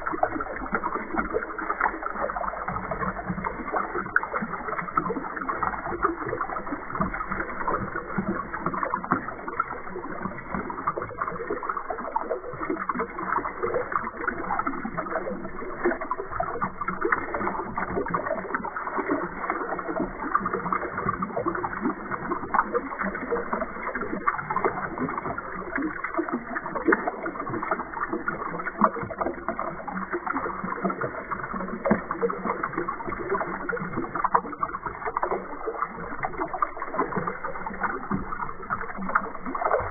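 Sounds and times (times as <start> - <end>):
bubbles bursting: 0.0 - 39.9
water pouring and splashing: 0.0 - 39.9.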